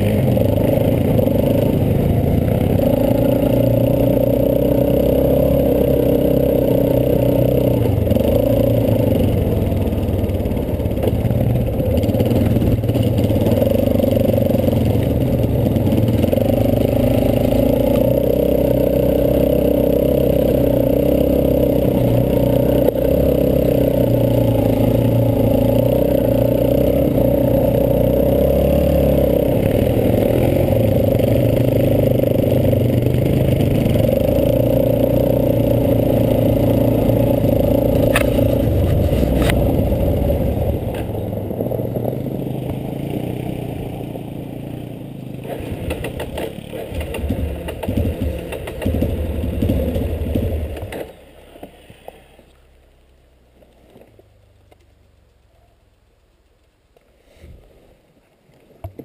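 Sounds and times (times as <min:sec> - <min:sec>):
quad bike engine running: 0:00.0 - 0:56.8.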